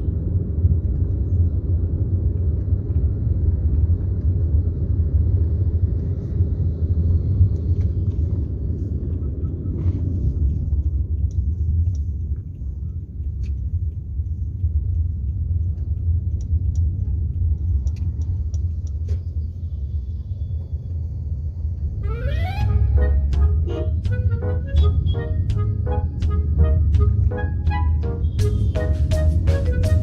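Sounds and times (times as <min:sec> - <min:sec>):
road vehicle rumbling: 0:00.0 - 0:30.0.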